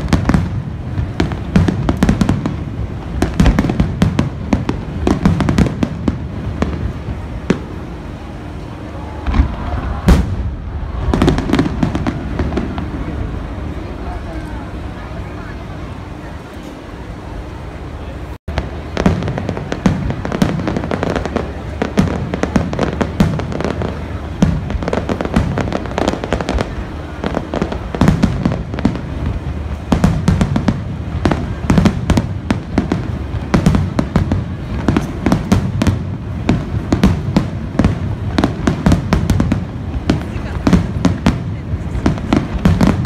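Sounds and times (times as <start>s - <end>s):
firework booms and crackling: 0.0s - 43.0s.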